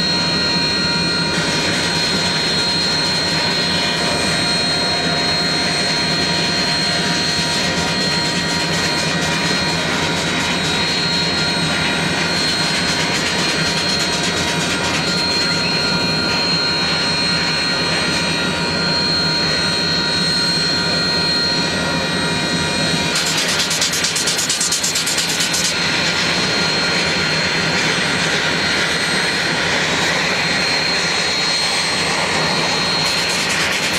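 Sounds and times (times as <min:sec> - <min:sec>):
high steady whine: 0:00.0 - 0:33.9.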